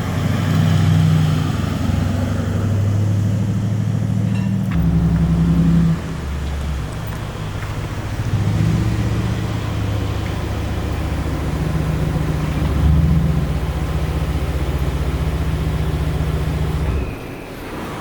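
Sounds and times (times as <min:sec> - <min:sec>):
car engine running: 0:00.0 - 0:17.1.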